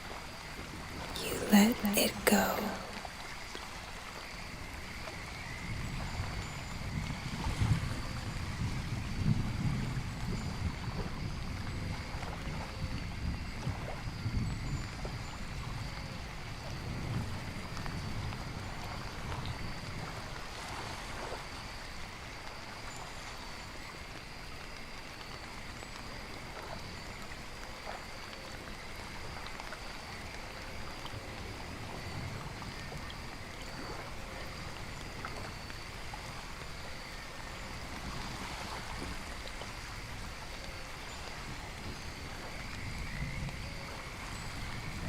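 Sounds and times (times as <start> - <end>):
rain: 0.0 - 45.0.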